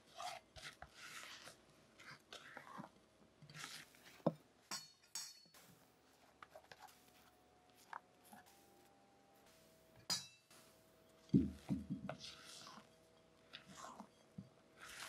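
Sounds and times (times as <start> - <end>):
spatula scraping batter: 0.0 - 8.6, 10.7 - 15.0.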